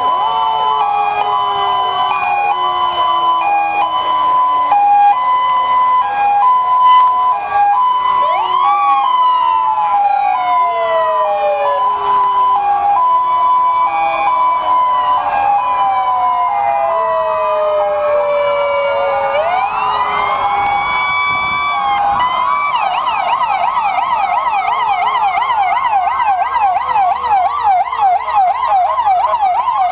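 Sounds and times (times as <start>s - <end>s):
two-tone hi-lo siren: 0.0s - 29.9s
wailing sirens: 0.0s - 29.9s.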